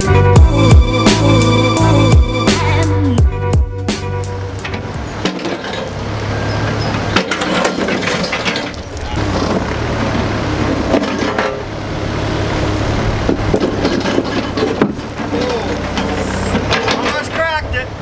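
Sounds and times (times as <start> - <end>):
heavy equipment engine running: 0.0 - 18.0.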